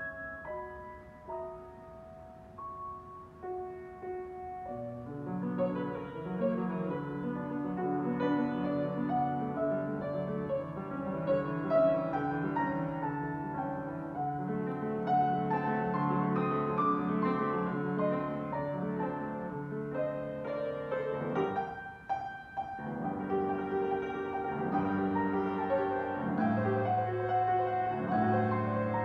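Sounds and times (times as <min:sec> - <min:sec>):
solo grand piano: 0:00.0 - 0:29.0.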